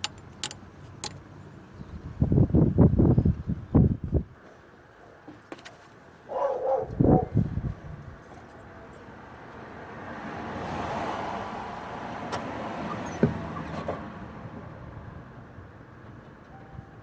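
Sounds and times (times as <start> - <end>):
car noise: 0.0 - 3.9, 5.2 - 17.0.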